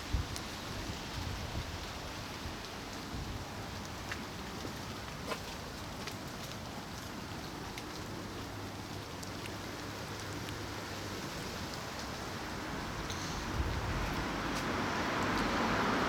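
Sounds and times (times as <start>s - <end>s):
wind through foliage: 0.0s - 16.0s.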